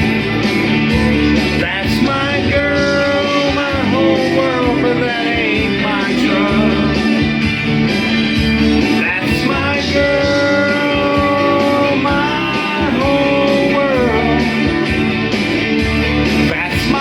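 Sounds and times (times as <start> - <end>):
country-rock band music: 0.0 - 17.0
lead guitar bending notes: 0.0 - 17.0.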